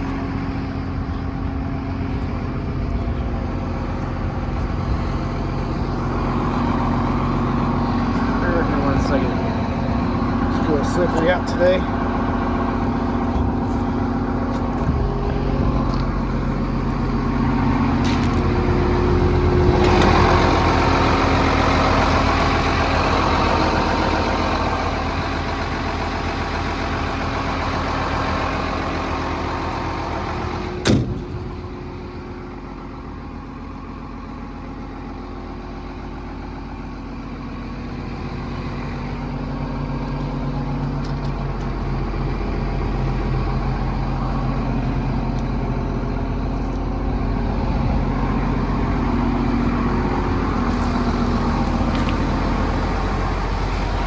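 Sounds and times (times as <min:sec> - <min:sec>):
excavator diesel engine idling: 0:00.0 - 0:54.0.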